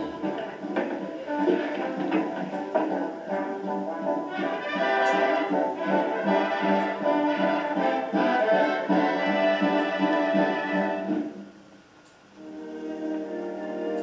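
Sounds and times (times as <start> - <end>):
orchestral music with brass chords: 0.0 - 11.6, 12.4 - 14.0.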